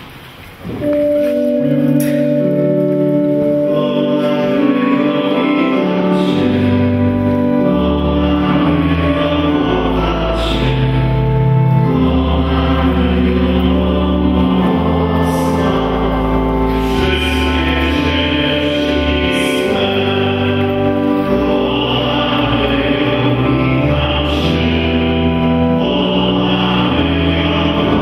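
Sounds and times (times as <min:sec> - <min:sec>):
low bass accompaniment: 0:00.6 - 0:28.0
group singing a worship song: 0:03.6 - 0:28.0.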